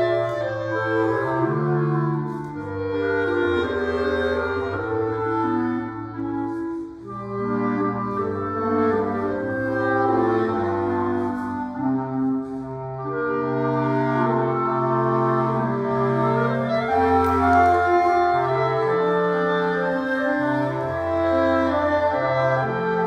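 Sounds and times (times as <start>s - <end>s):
clarinet ensemble playing: 0.0s - 23.0s.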